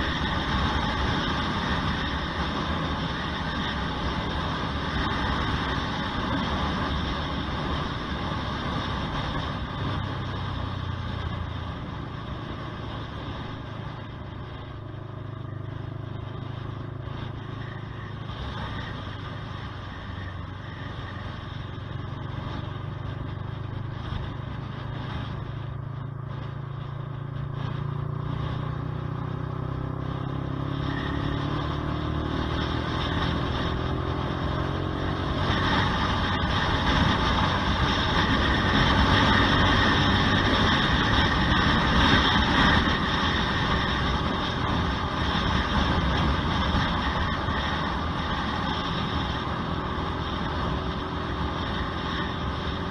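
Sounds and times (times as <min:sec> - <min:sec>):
motorcycle engine running: 0:00.0 - 0:52.9
rushing wind noise: 0:00.0 - 0:52.9.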